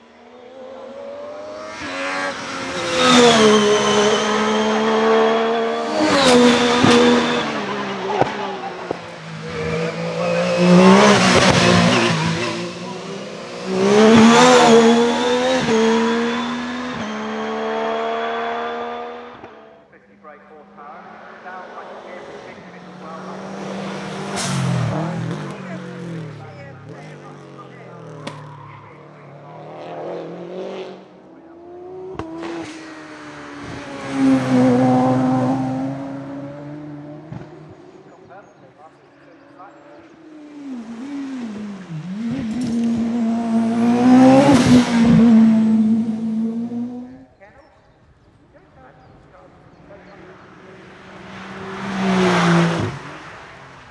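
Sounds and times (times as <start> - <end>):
racing car engine at hard throttle: 0.0 - 47.5, 48.6 - 53.9.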